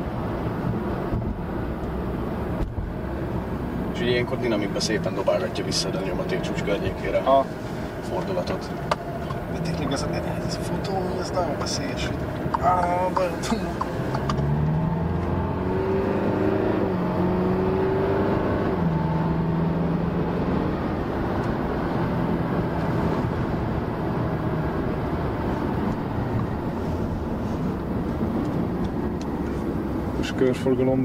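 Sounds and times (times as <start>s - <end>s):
car engine from inside cabin: 0.0s - 31.0s
tyre and road noise: 0.0s - 31.0s.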